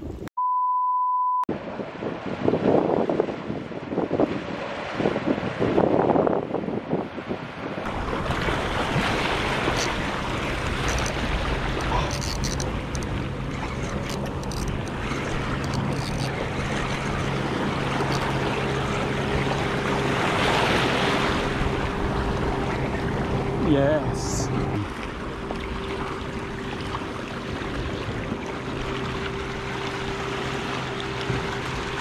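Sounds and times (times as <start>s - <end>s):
wind buffeting microphone: 1.5s - 32.0s.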